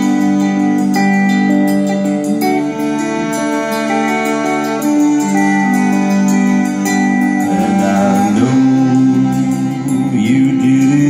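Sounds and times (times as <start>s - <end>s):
electric guitar: 0.0s - 11.0s
saxophone: 0.0s - 11.0s.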